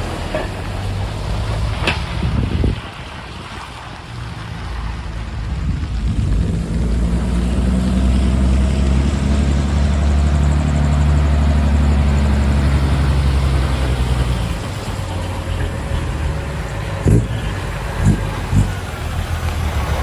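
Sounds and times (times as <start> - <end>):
truck diesel engine drone: 0.0 - 20.0.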